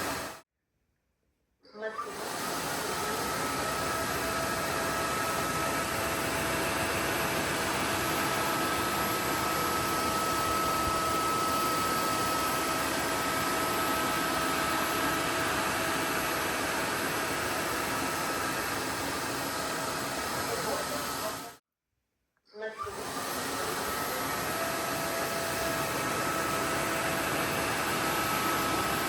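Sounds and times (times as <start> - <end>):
vacuum cleaner running: 0.0 - 0.4, 1.9 - 21.6, 22.7 - 29.0.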